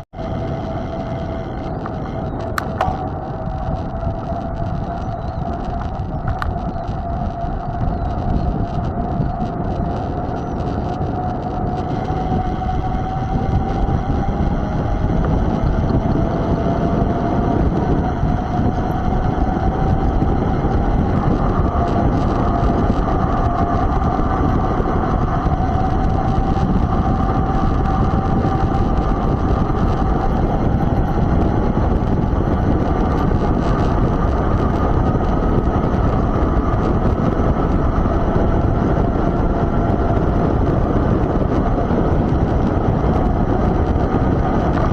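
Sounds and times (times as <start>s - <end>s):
wind rush over microphone: 0.0s - 44.9s
faint whining tone: 0.1s - 44.9s
bike tires rolling: 0.2s - 44.9s.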